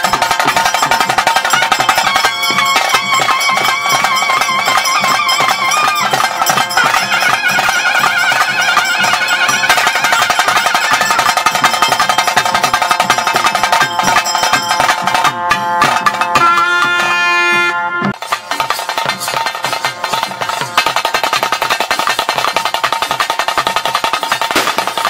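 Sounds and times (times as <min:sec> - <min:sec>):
reedy wind instrument melody: 0:00.0 - 0:20.8
fast drums and percussion: 0:00.0 - 0:25.0.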